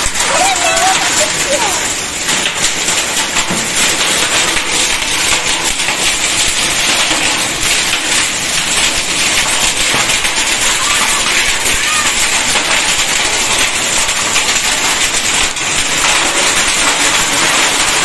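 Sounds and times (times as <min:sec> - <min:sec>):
hailstones striking: 0:00.0 - 0:18.0
heavy rain on concrete: 0:00.0 - 0:18.0.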